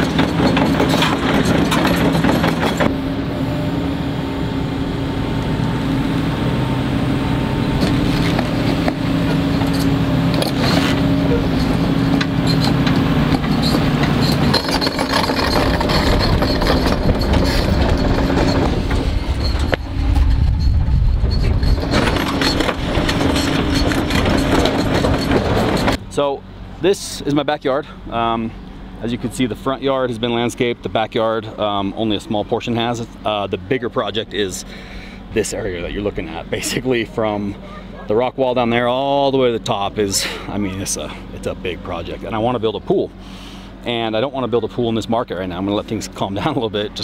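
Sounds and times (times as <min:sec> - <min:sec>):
diesel engines running: 0:00.0 - 0:47.0
steady low engine hum: 0:00.0 - 0:47.0.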